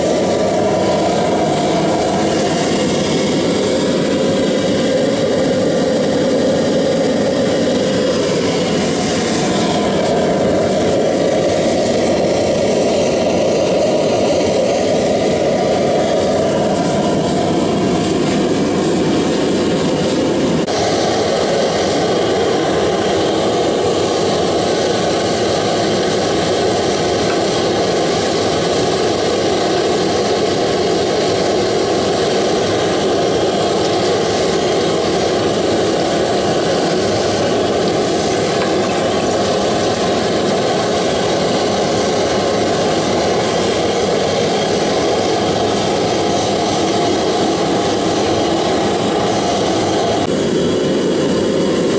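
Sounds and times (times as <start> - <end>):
gas burner roaring: 0.0 - 51.9.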